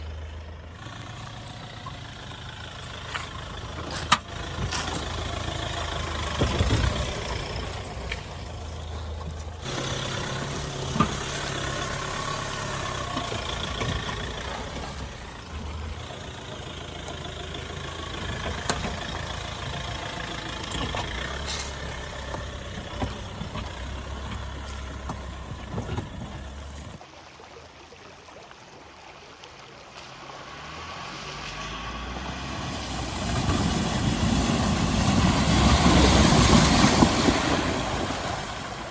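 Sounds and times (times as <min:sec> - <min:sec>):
diesel engine running: 0:00.0 - 0:27.0, 0:31.7 - 0:38.9.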